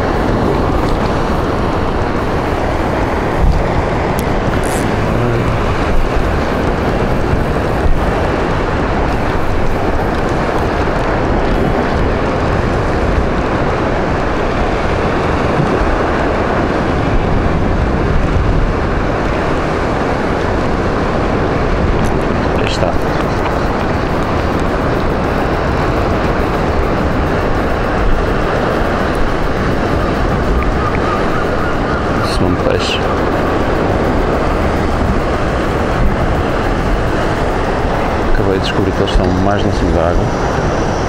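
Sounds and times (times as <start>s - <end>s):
sea surf against rocks: 0.0s - 41.0s
wind on microphone: 0.0s - 41.0s.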